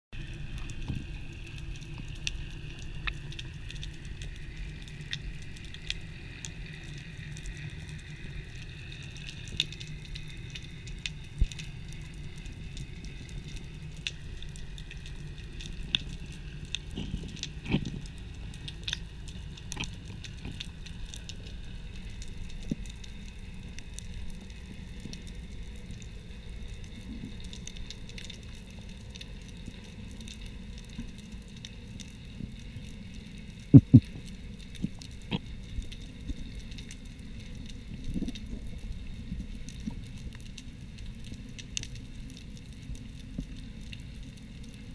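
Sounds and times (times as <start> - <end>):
low underwater rumble: 0.2 - 44.9
underwater crackling clicks: 0.3 - 44.9.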